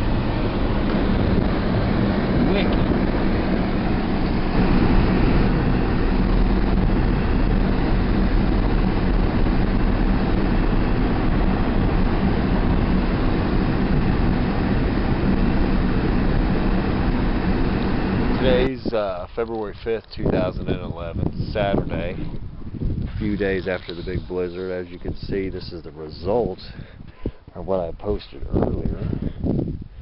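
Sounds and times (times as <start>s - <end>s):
car engine and road rumble: 0.0s - 29.9s
faint hum: 0.0s - 30.0s.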